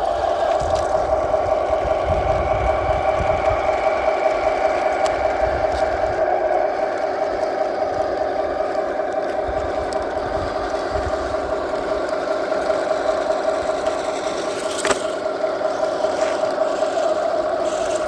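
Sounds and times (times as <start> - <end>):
model truck whine: 0.0 - 18.0.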